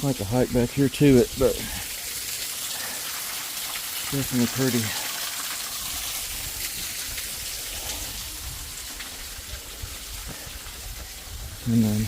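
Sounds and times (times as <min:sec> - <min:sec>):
waterfall hiss: 0:00.0 - 0:12.0.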